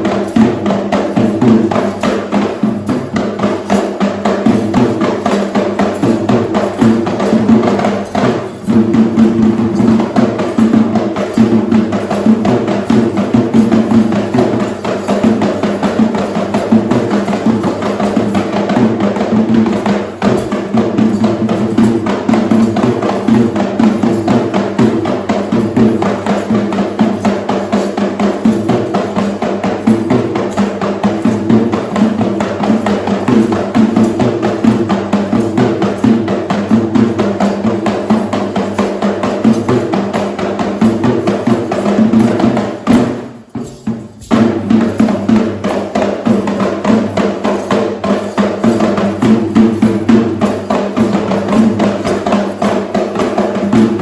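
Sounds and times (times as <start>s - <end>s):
traditional drums fast rhythm: 0.0s - 54.0s.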